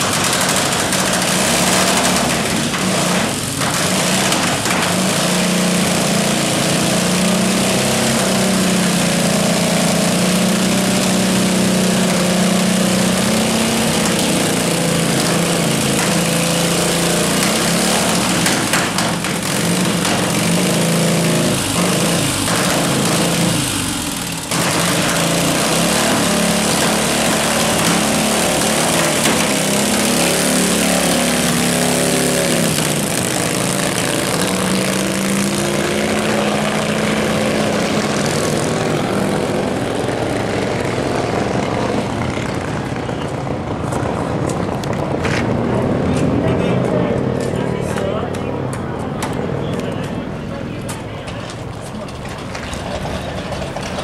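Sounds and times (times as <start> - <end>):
racing engines revving: 0.0 - 54.0.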